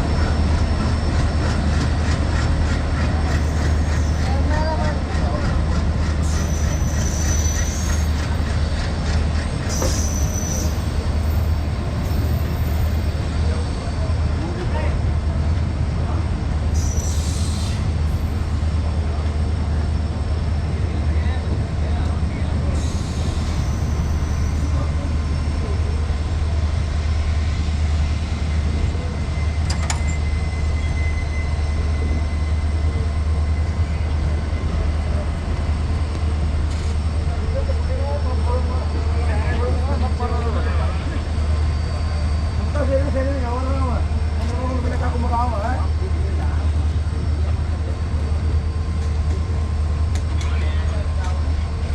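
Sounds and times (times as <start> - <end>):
train wheels squealing: 0.0 - 21.5, 22.6 - 51.9
train rumbling on track: 0.0 - 51.9.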